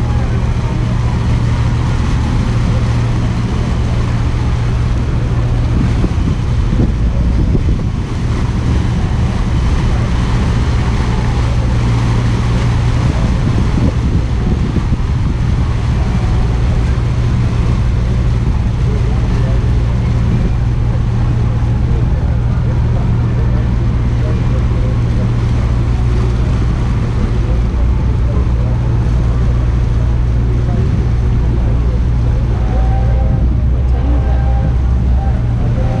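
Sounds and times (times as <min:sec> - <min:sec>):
boat engine droning: 0:00.0 - 0:36.0
water noise: 0:00.0 - 0:36.0
wind: 0:00.0 - 0:36.0.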